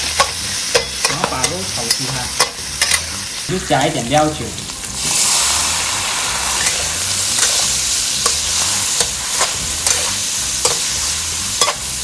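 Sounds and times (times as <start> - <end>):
spatula scraping a wok: 0.0 - 3.6, 4.9 - 12.0
meat sizzling in a wok: 0.0 - 12.0.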